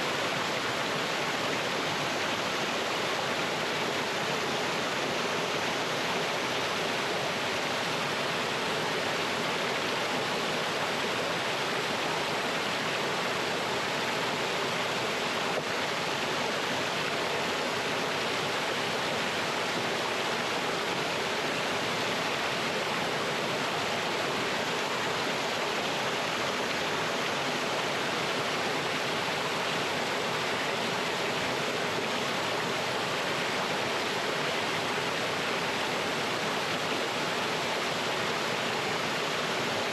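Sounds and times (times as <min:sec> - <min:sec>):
stream pouring over rocks: 0:00.0 - 0:39.9.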